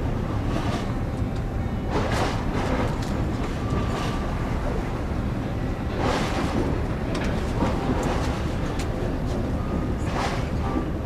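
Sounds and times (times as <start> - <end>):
ship engines rumbling: 0.0 - 11.0.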